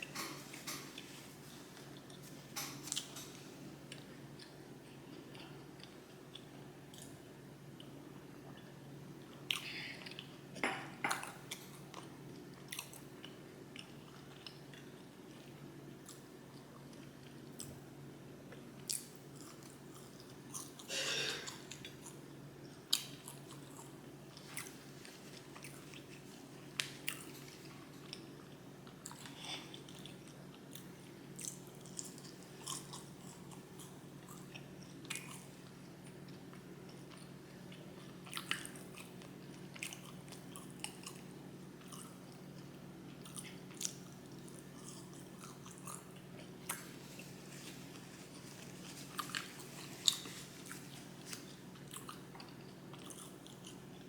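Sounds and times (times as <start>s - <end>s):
person chewing food: 0.0s - 10.4s, 11.1s - 17.8s, 18.5s - 54.0s.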